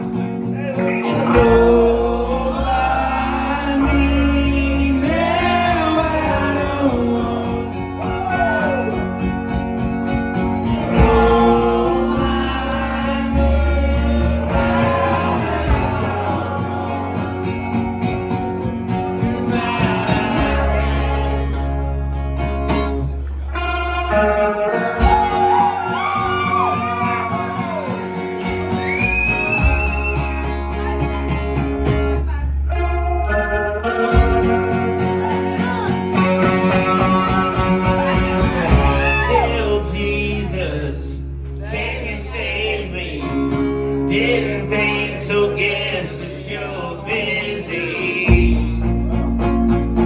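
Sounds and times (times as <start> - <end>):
drums: 0.0 - 32.7, 33.3 - 39.6, 48.2 - 50.0
bass: 0.0 - 50.0
strummed acoustic guitar: 0.0 - 50.0.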